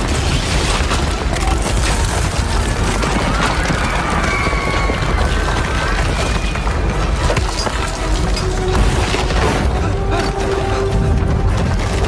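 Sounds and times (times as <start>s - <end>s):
cracking and crashing debris: 0.0s - 12.0s
deep rumble: 0.0s - 12.0s
film score: 0.0s - 12.0s.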